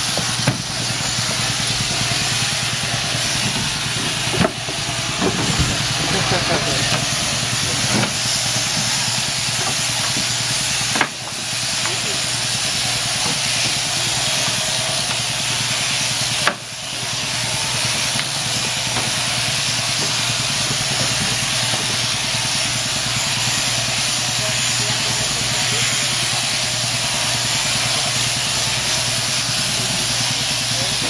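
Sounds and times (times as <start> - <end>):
shearing handpiece whirring: 0.0 - 31.0.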